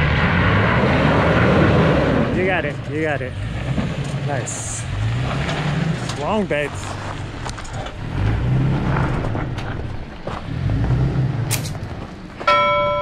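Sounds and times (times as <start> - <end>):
pickup truck engine revving: 0.0 - 12.1.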